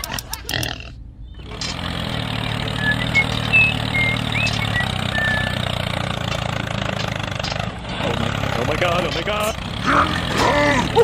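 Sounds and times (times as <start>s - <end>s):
small engine idling: 1.4s - 11.0s.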